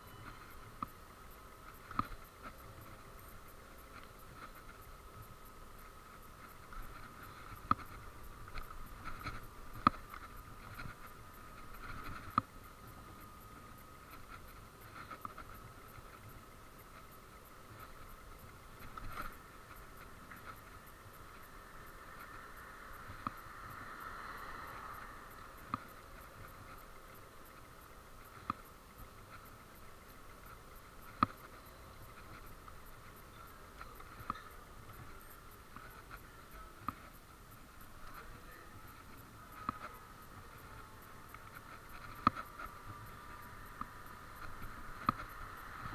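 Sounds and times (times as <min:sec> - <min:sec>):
electric scooter motor whine: 0:00.0 - 0:45.9.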